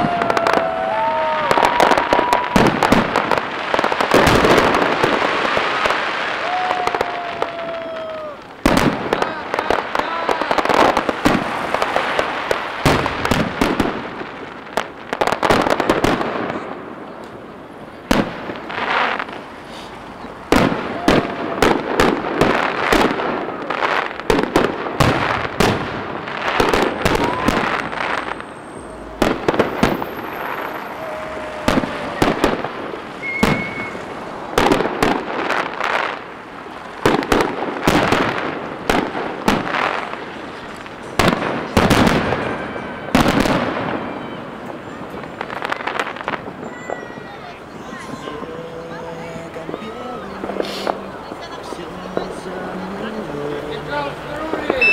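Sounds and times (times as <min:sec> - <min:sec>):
fireworks bursting with sharp bangs: 0:00.0 - 0:54.9.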